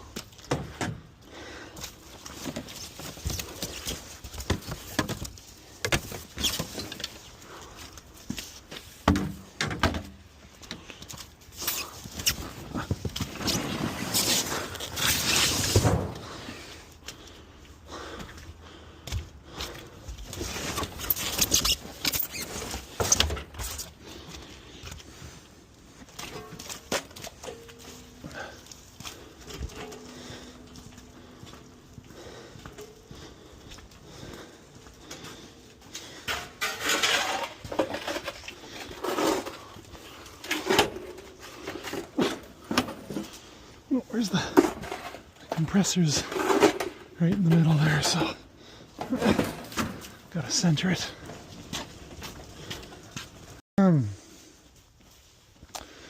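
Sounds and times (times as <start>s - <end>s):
scrap clattering and scraping: 1.8s - 16.9s, 19.8s - 33.5s, 34.1s - 53.6s.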